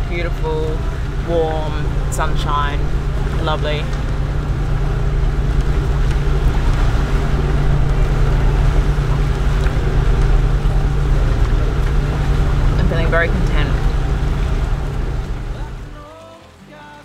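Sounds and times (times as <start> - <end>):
boat engine droning: 0.0 - 16.8
water noise: 0.0 - 17.0
wind: 0.0 - 17.0.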